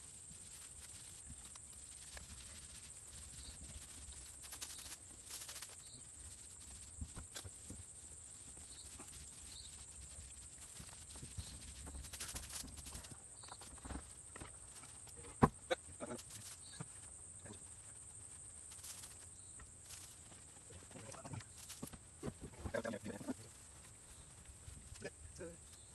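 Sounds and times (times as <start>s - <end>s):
steady high hiss: 0.0s - 25.9s.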